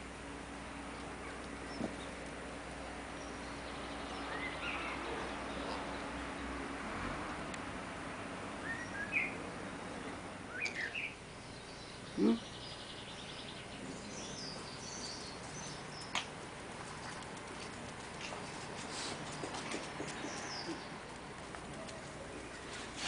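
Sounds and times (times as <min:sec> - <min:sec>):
birds chirping: 0:00.8 - 0:06.7, 0:08.6 - 0:23.0.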